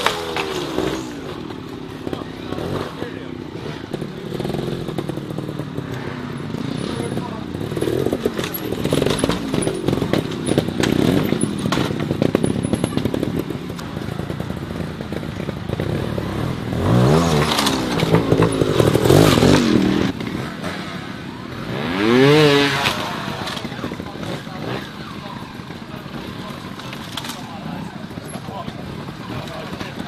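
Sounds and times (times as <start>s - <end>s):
tyres and chassis clattering on rock: 0.0s - 2.9s, 3.8s - 20.8s, 22.0s - 30.0s
motorcycle engines revving: 0.0s - 30.0s.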